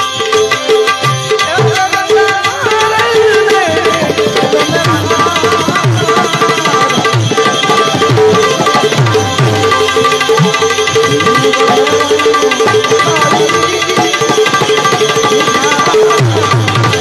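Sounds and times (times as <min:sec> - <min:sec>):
hand drums beating: 0:00.0 - 0:17.0
harmonium chords: 0:00.0 - 0:17.0.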